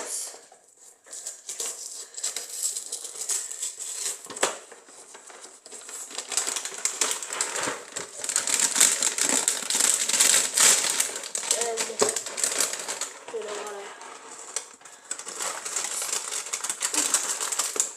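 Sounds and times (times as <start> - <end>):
cereal box packaging crinkling: 0.2 - 17.9.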